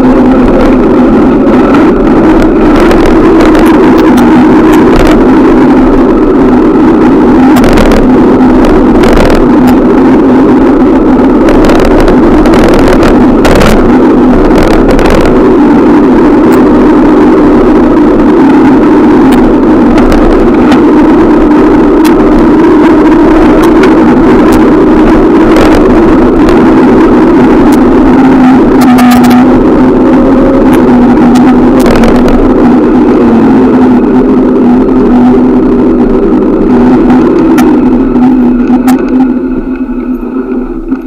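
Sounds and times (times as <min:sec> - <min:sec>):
road noise drone: 0:00.0 - 0:41.0.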